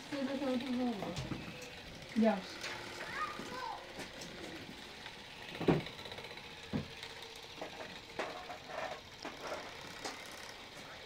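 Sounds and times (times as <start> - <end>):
sewing machine running: 0.0 - 10.8.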